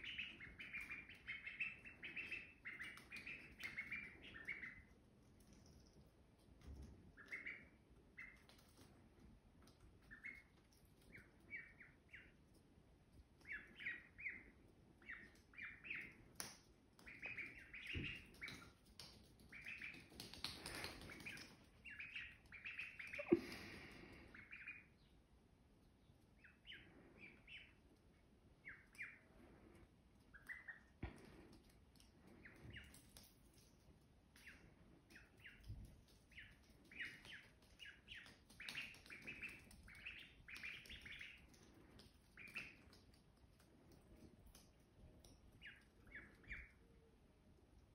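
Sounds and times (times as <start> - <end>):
ducklings peeping: 0.0 - 47.3.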